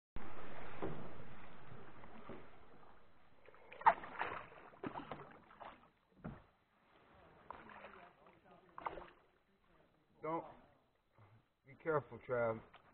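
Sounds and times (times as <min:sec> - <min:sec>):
kayak paddle splashing water: 0:00.2 - 0:11.2.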